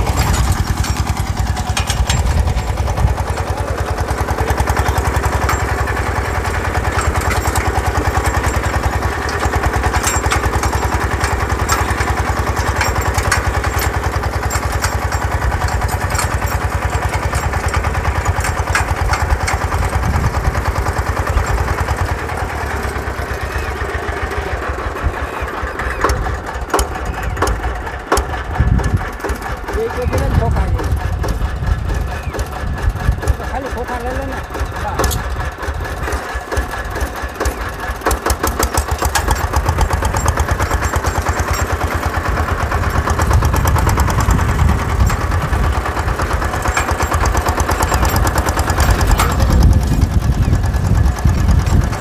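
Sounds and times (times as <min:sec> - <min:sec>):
tractor engine chugging: 0:00.0 - 0:52.0.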